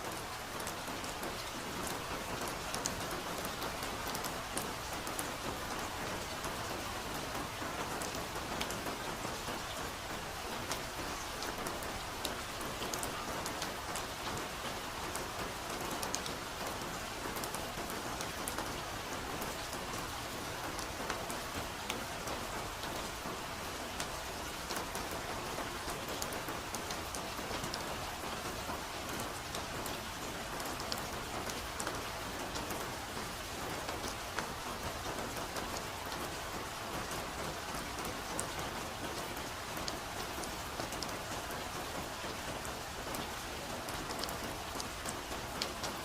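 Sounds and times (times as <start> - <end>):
rain falling on forest canopy: 0.0 - 46.0.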